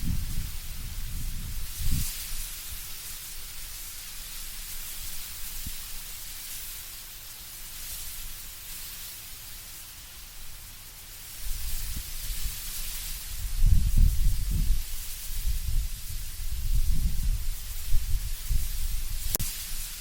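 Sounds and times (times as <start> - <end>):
leaves rustling: 0.0 - 20.0
wind through trees: 0.0 - 20.0.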